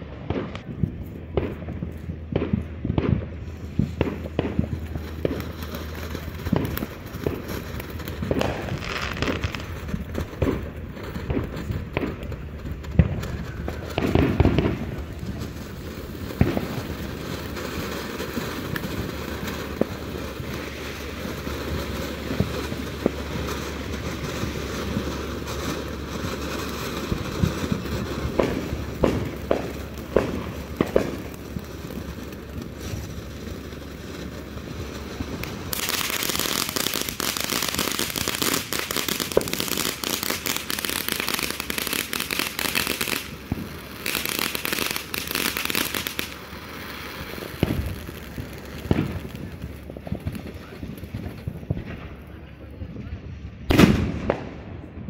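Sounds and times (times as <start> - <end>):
firework fountain hissing sparks: 0.4 - 52.4.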